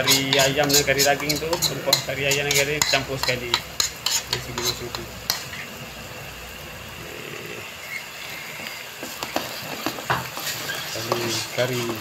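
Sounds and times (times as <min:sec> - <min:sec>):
spice paste sizzling in oil: 0:00.0 - 0:12.0.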